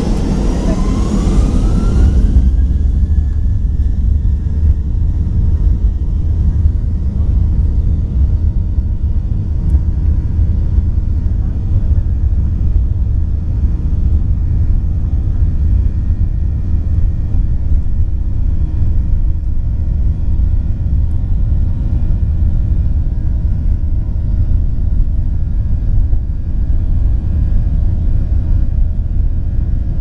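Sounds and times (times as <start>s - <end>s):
jet engine low rumble: 0.0s - 30.0s.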